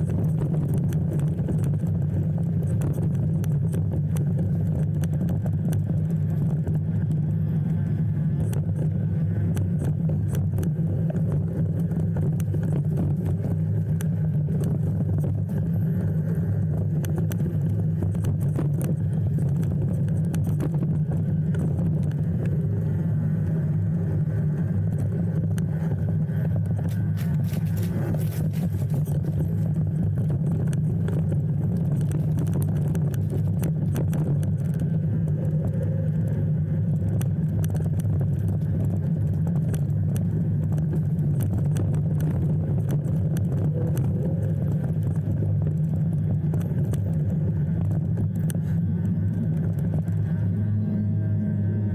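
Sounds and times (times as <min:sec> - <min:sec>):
faint clicks and rattles: 0:00.0 - 0:50.6
vehicle driving rumble: 0:00.0 - 0:51.9.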